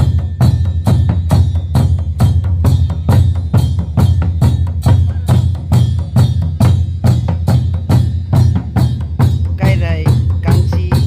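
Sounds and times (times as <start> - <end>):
barrel drums beaten with sticks: 0.0 - 11.0.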